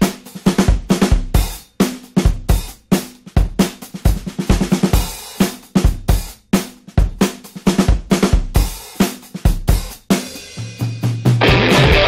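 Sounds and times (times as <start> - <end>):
drum kit beat: 0.0 - 12.0.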